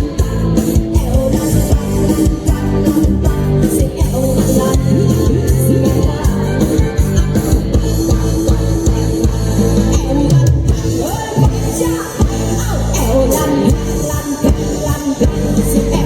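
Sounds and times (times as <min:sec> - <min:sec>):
drum kit: 0:00.0 - 0:16.0
electric guitar: 0:00.0 - 0:16.0
live rock band: 0:00.0 - 0:16.0
person singing: 0:00.0 - 0:16.0.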